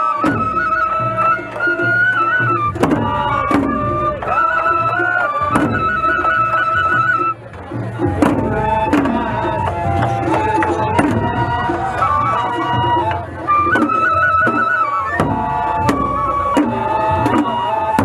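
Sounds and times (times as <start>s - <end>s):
bamboo flutes melody: 0.0s - 18.0s
large drum strokes: 0.0s - 18.0s.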